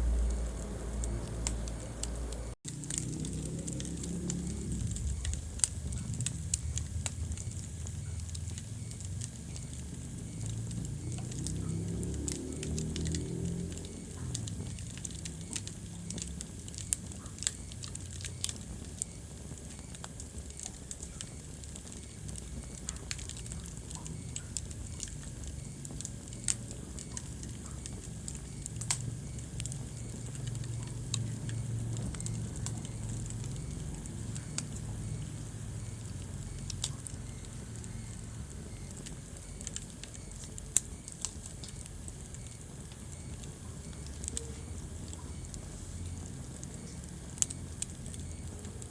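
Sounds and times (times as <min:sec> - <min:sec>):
low steady rumble: 0:00.0 - 0:48.9
wood fire crackling and popping: 0:00.0 - 0:48.9.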